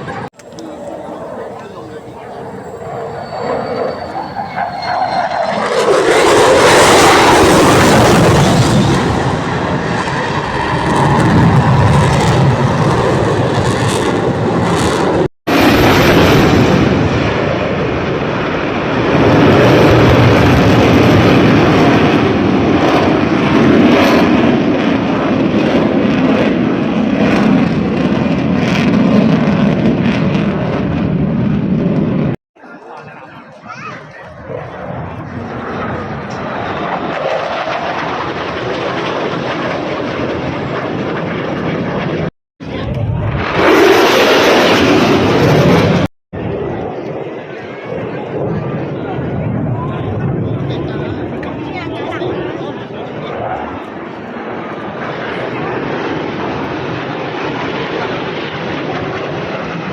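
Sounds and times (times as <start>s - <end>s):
fighter jet engine roar: 0.0s - 32.4s, 33.6s - 59.9s.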